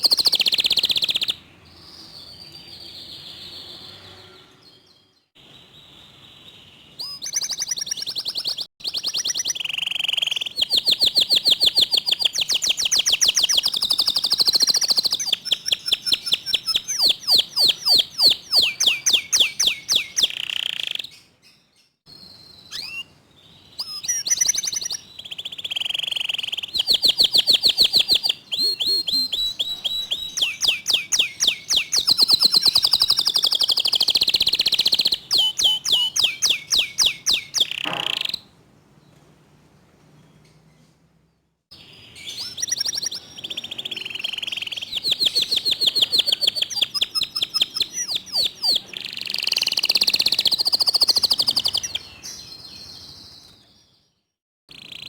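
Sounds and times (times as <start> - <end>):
canary singing rapid trills: 0.0 - 38.5, 41.7 - 54.0, 54.7 - 55.0.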